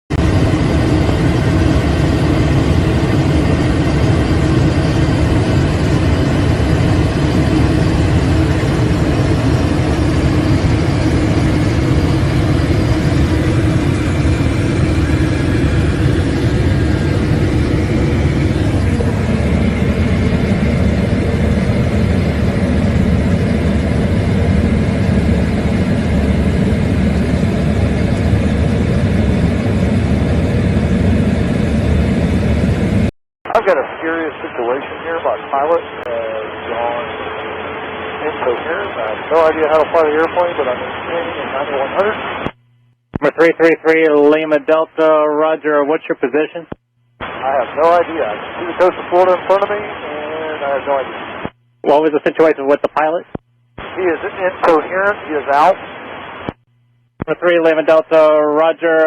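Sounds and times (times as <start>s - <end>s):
aircraft engine running: 0.1s - 59.0s.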